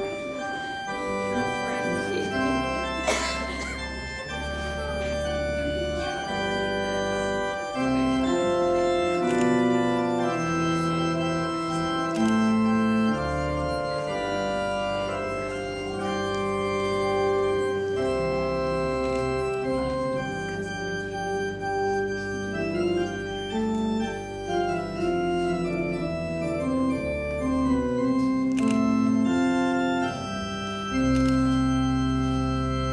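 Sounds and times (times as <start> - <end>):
church organ playing: 0.0 - 32.9.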